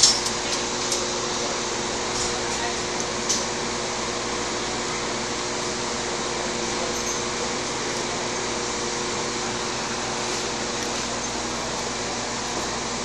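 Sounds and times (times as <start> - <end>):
ventilation fan hiss and hum: 0.0 - 13.0.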